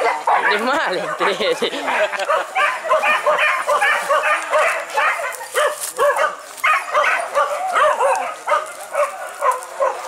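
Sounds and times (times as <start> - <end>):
dogs barking and yelping: 0.0 - 10.0.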